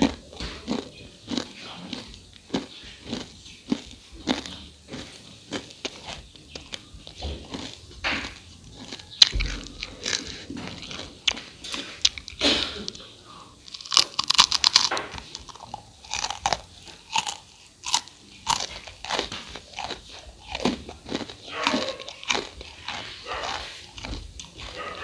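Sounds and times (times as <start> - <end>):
crunching crispy rice cakes: 0.0 - 25.0.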